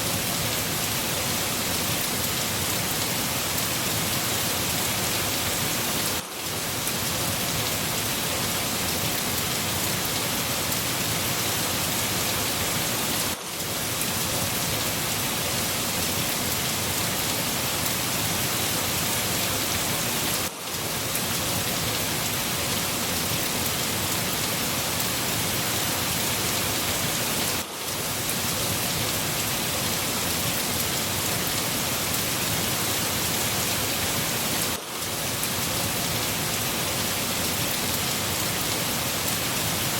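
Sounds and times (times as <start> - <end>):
heavy rain pattering on surfaces: 0.0 - 39.9.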